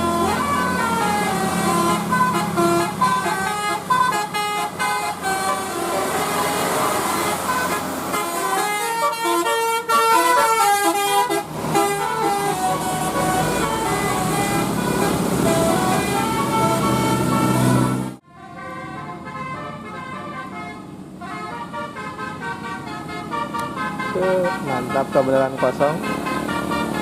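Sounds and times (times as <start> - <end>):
bus engine running: 0.0 - 27.0
multi-tone air horn melody: 0.0 - 27.0.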